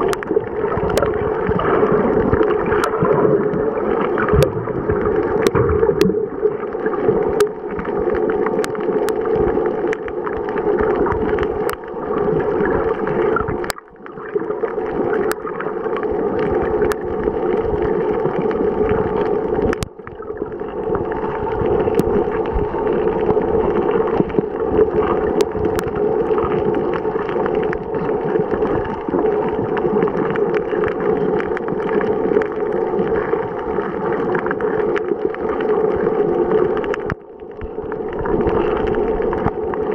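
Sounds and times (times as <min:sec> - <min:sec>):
faint underwater clicks: 0:00.0 - 0:39.9
muffled underwater rush: 0:00.0 - 0:39.9.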